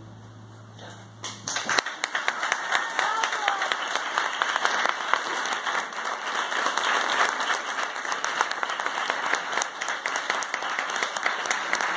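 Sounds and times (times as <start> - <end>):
audience applauding: 1.3 - 11.9.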